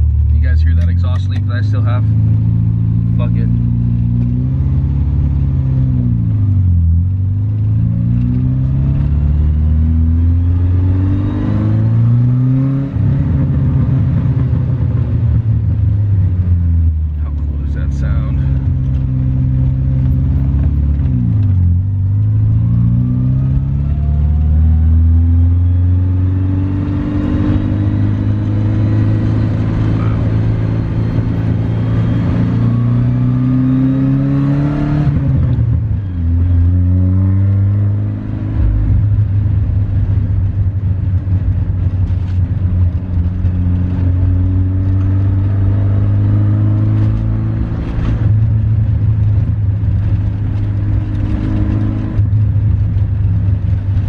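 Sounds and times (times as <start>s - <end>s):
car engine revving through gears: 0.1s - 54.0s.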